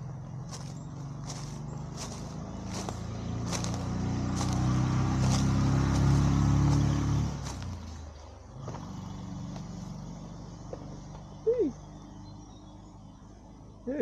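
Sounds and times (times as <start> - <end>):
motor vehicle passing: 0.0 - 14.0.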